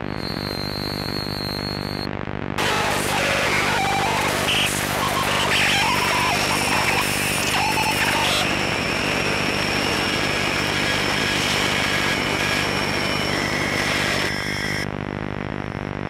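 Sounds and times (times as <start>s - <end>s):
engine-like electronic drone: 0.0s - 15.9s.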